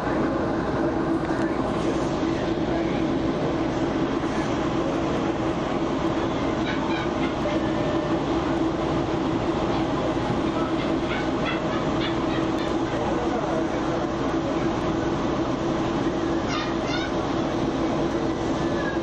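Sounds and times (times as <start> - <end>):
constant hum: 0.0 - 19.0
train wheels rumbling on rail: 0.0 - 19.0.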